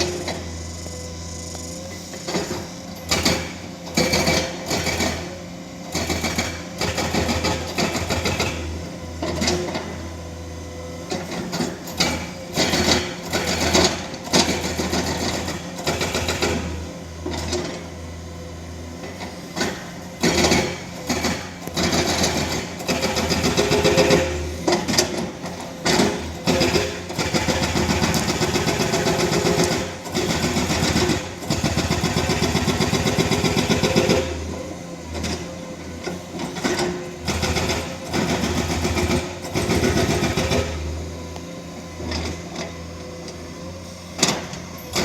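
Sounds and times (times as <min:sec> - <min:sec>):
excavator engine humming: 0:00.0 - 0:45.0.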